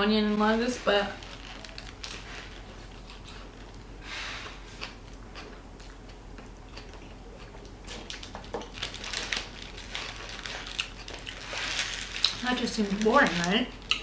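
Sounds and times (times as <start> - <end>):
person chewing food: 1.2 - 12.4, 13.8 - 14.0.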